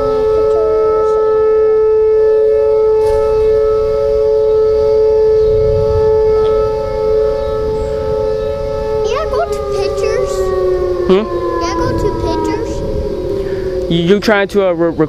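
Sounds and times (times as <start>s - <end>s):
tornado siren steady tone: 0.0s - 15.0s.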